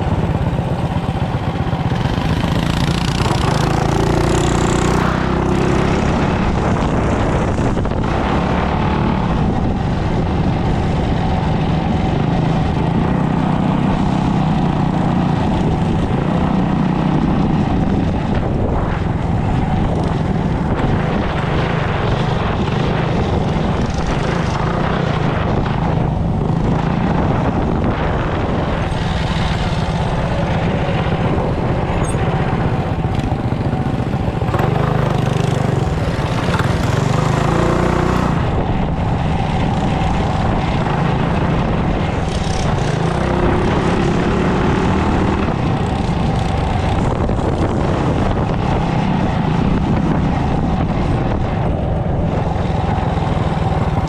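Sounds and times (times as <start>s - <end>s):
small bike engine running: 0.0s - 54.0s.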